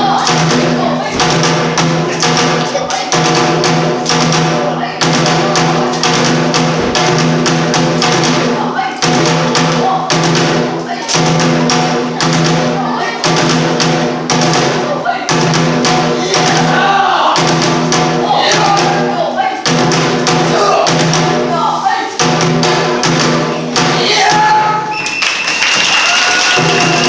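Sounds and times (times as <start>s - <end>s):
taiko drum strokes: 0.0s - 25.1s.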